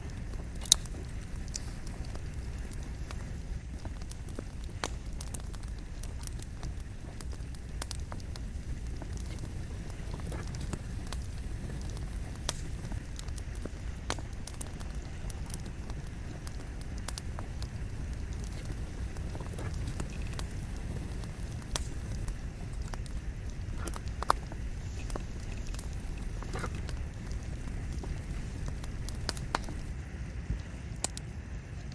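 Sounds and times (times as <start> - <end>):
logs crackling and popping: 0.0 - 31.9
low rumble of flames: 0.0 - 31.9.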